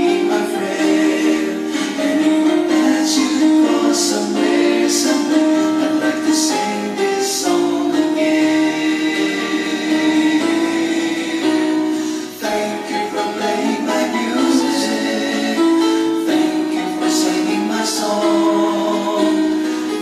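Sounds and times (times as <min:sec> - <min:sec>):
backing music: 0:00.0 - 0:20.0.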